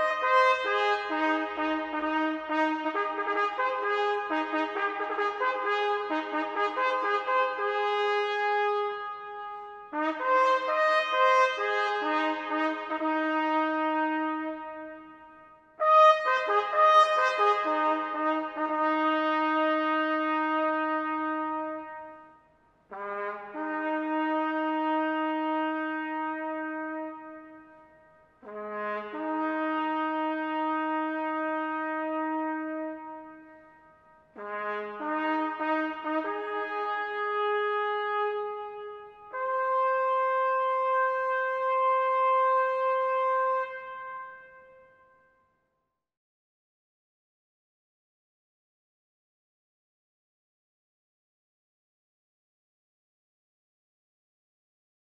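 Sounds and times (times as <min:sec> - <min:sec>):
solo bugle playing: 0:00.0 - 0:45.0.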